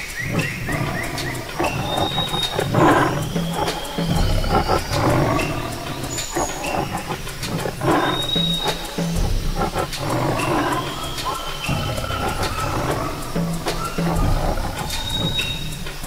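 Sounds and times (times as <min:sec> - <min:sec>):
tiger roaring: 0:00.0 - 0:16.0.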